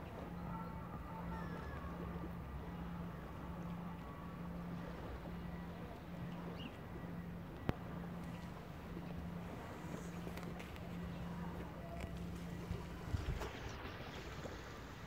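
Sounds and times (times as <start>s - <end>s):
pulsing low hum: 0.0s - 15.0s.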